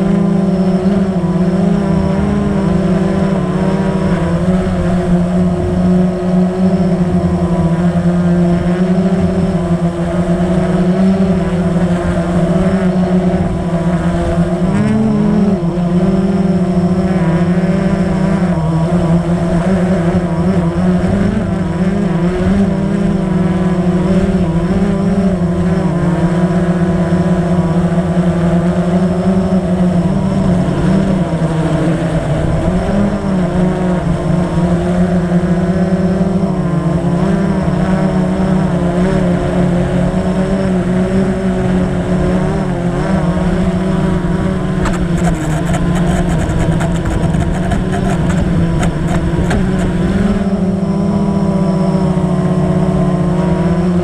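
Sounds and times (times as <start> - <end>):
drone motors humming: 0.0 - 54.0.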